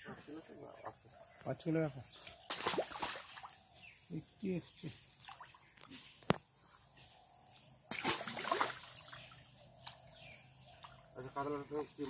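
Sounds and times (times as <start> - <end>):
pond water splashing and trickling: 1.7 - 12.0.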